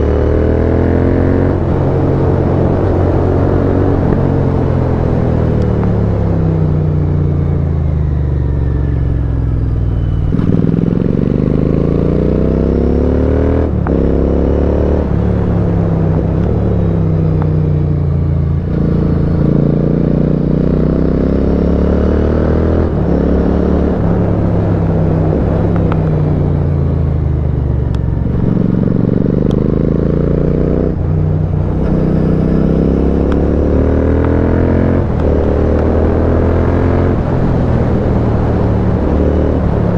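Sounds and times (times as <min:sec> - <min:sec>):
motorcycle engine revving: 0:00.0 - 0:07.4, 0:09.8 - 0:39.9.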